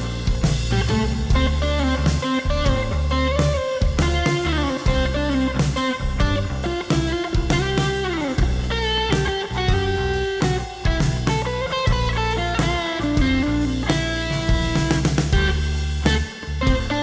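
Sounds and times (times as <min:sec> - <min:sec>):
bass: 0:00.0 - 0:17.0
drums: 0:00.0 - 0:17.0
fuzzy electric guitar: 0:00.0 - 0:17.0.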